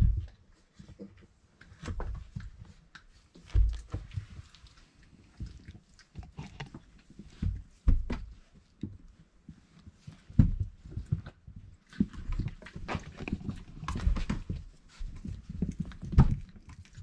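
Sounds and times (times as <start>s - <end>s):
puppies scuffling on bedding: 0.0s - 5.7s, 6.3s - 17.0s.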